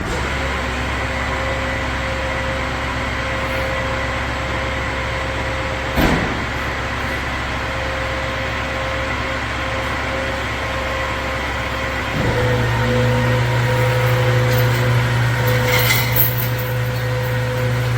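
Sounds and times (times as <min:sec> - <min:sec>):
truck engine running: 0:00.2 - 0:17.9.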